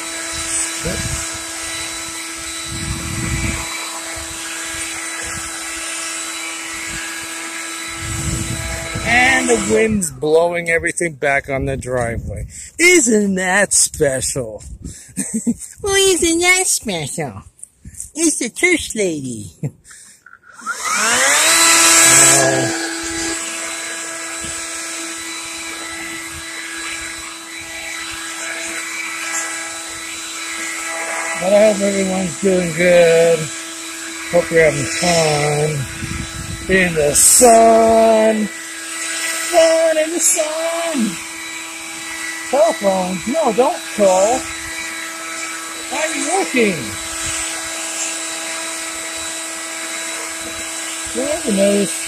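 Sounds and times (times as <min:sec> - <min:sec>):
leaf blower whining: 0:00.0 - 0:10.8, 0:19.7 - 0:52.0.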